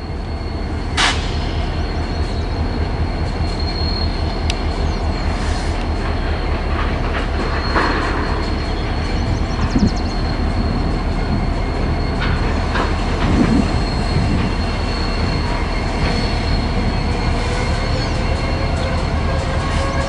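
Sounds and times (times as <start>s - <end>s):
high-pitched wheel squeal: 0.0s - 5.8s, 7.4s - 20.0s
train wheels rumbling on rail: 0.0s - 20.0s.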